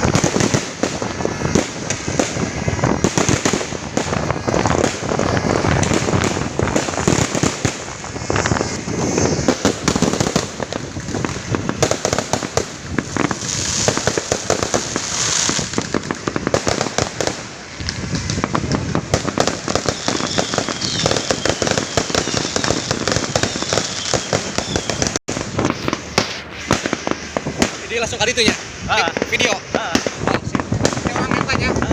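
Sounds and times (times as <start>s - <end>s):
fireworks crackling and banging: 0.0s - 31.9s.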